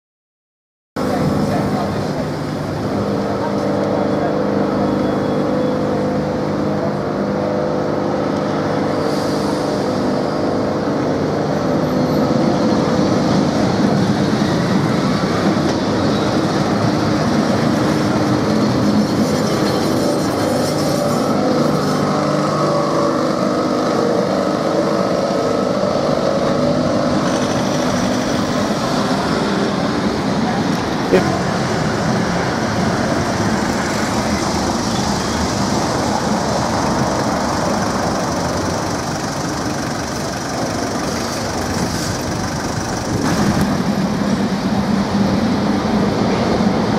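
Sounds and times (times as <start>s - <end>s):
street traffic: 1.0s - 46.9s
tram wheels on rails: 1.0s - 46.9s.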